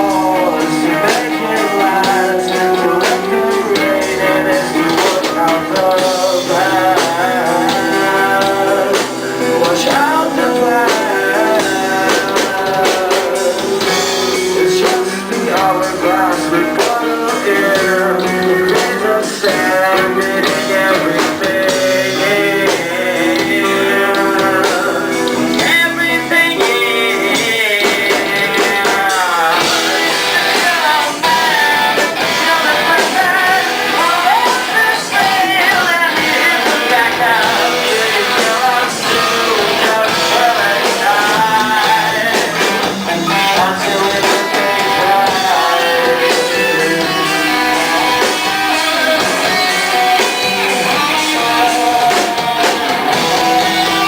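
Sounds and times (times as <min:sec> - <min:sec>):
guitar: 0:00.0 - 0:54.0
person singing: 0:00.0 - 0:54.0
rock band playing: 0:00.0 - 0:54.0.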